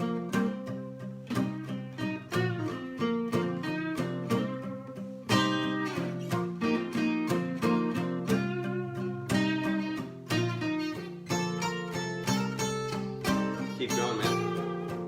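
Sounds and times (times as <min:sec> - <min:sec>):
guitar solo: 0:00.0 - 0:15.0
strummed acoustic rhythm guitar: 0:00.0 - 0:15.0.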